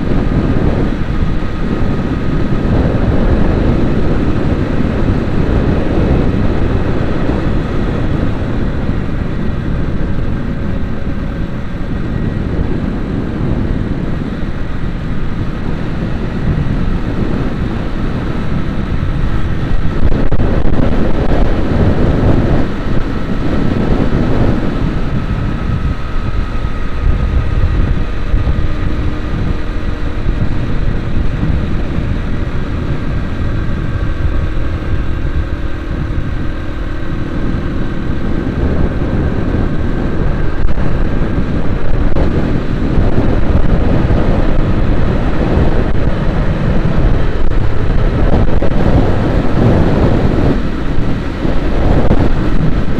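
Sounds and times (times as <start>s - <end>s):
vehicle engine and road noise: 0.0s - 52.9s.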